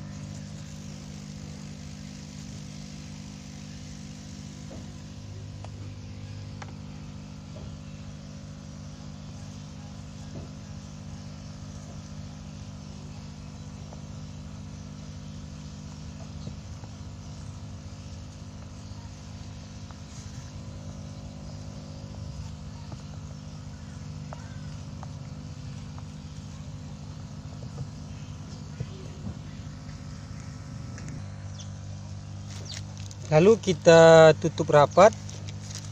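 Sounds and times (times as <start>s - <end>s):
air pump humming: 0.0s - 35.9s.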